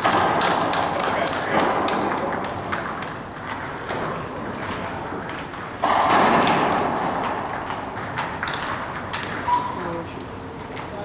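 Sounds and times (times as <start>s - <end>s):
table tennis balls clicking: 0.0s - 11.0s.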